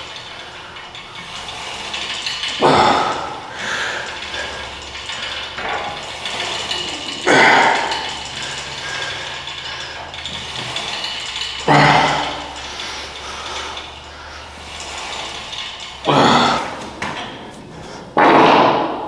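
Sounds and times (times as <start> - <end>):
cable clattering over pulleys: 0.0 - 19.0
weight stack strokes: 0.0 - 19.0.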